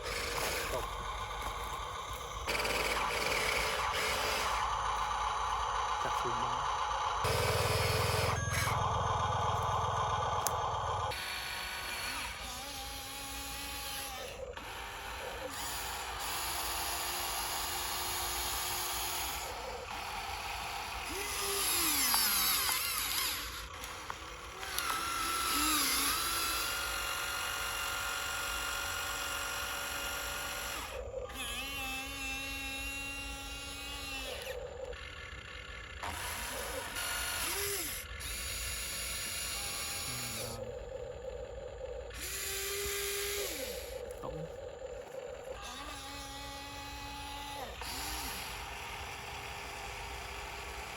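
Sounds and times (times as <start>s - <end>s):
small electric motors whining: 0.0s - 50.9s.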